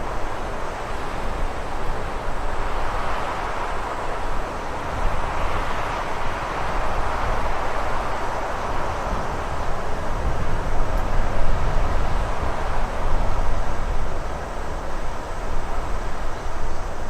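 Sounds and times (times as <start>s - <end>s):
rushing wind: 0.0s - 17.0s.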